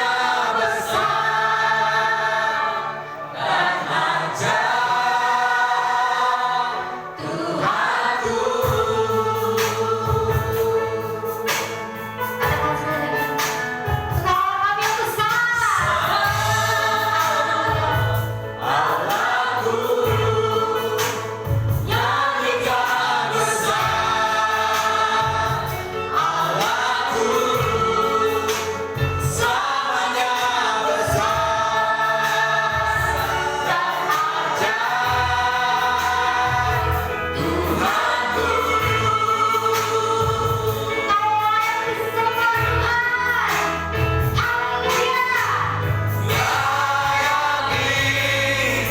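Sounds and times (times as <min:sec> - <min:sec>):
choir singing gospel song: 0:00.0 - 0:48.9
band with steady bass line: 0:06.8 - 0:48.9.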